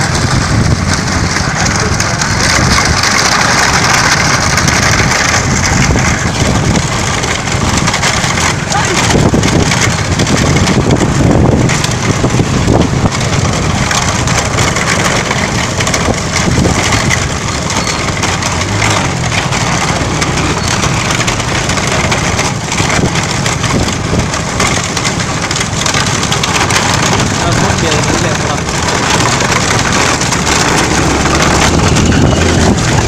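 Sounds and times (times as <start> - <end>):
cart wheels rattling and clattering: 0.0 - 33.0.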